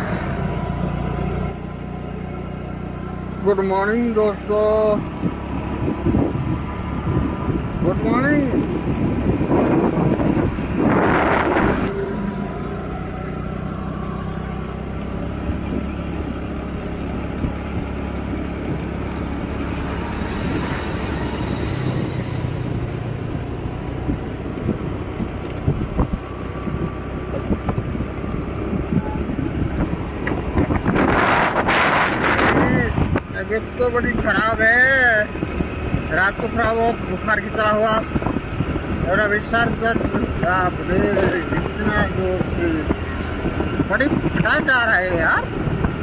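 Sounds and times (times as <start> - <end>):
motorbike engine running: 0.0 - 46.0
road and wind noise: 0.0 - 46.0.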